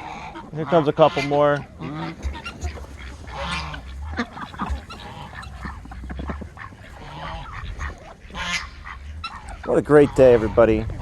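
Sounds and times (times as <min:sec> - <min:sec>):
ducks and chickens calling: 0:00.0 - 0:11.0
geese honking: 0:00.0 - 0:11.0.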